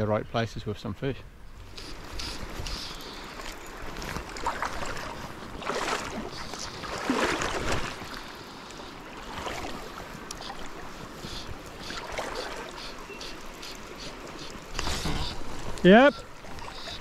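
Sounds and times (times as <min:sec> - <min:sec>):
river water sloshing and splashing: 0:01.5 - 0:17.0.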